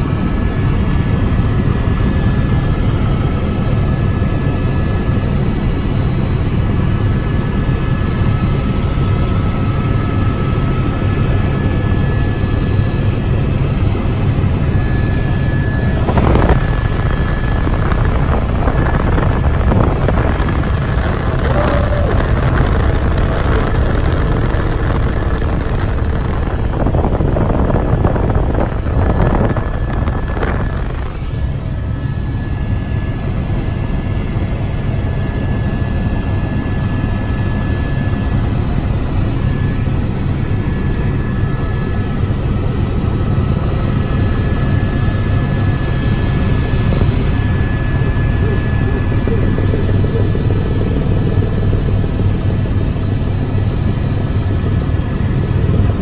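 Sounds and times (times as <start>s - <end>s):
faint high whine: 0.0s - 56.0s
helicopter rotor and turbine drone: 0.0s - 56.0s.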